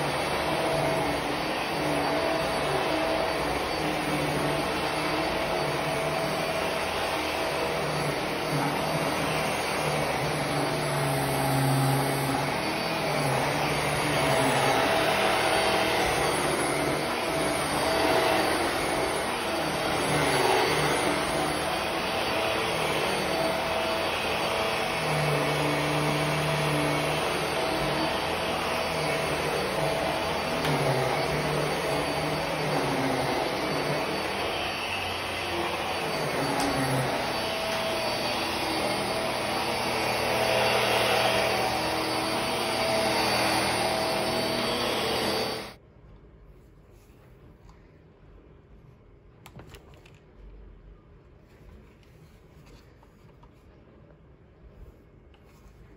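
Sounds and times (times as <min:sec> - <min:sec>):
vacuum cleaner running: 0:00.0 - 0:45.8.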